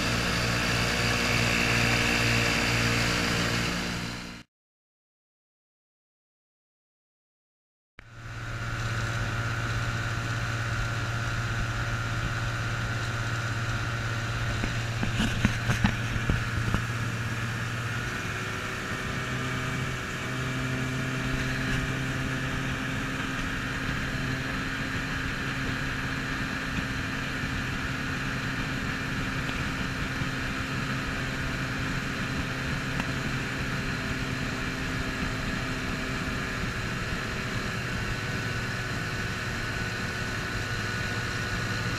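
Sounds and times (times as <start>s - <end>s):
outboard motor running: 0.0s - 4.4s, 8.0s - 41.9s.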